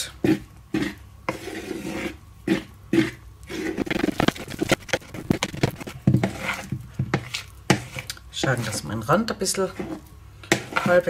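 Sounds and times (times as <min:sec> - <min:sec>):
spoon scraping plastic bowl: 0:00.2 - 0:08.9, 0:09.6 - 0:11.0.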